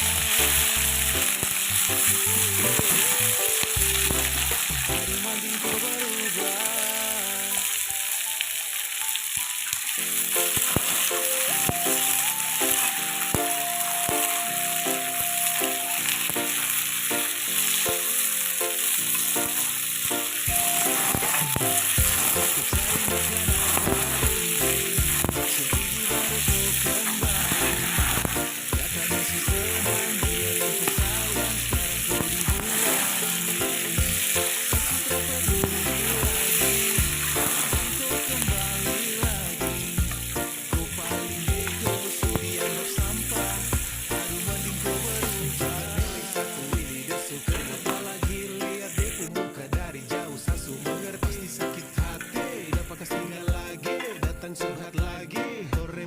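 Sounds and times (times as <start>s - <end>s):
food frying in hot oil: 0.0s - 49.3s.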